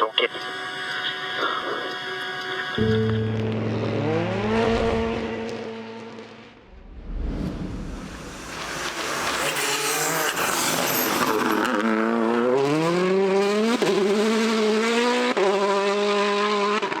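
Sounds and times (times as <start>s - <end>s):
rally car engine accelerating: 2.0s - 6.8s, 7.8s - 17.0s.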